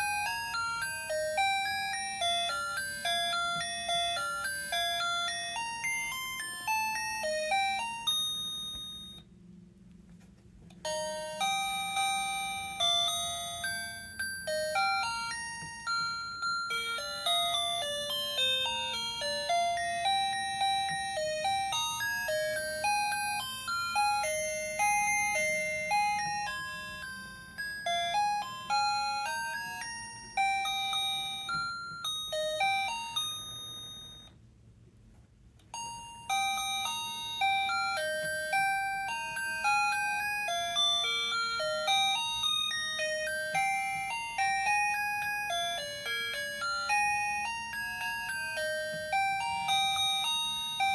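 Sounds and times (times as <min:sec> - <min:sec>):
electronic toy melody: 0:00.0 - 0:09.2, 0:10.8 - 0:34.4, 0:35.7 - 0:50.9.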